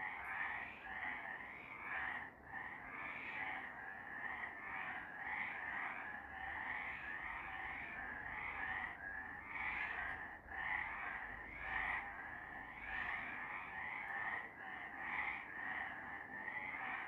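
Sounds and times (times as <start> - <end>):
frogs calling: 0.0 - 17.0.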